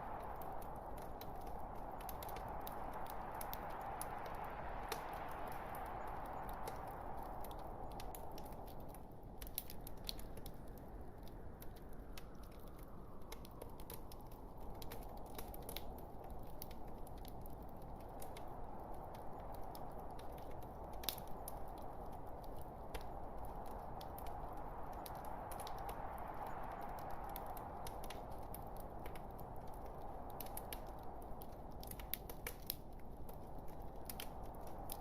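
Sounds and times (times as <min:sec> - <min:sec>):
logs crackling and popping: 0:00.0 - 0:35.0
low rush of flame: 0:00.0 - 0:35.0.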